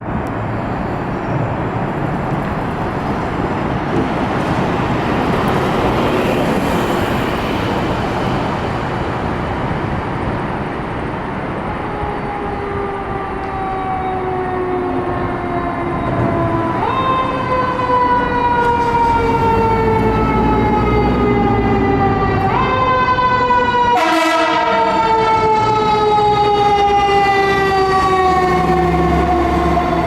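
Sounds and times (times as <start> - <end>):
heavy street traffic: 0.0 - 30.0
fire engine siren: 2.3 - 30.0.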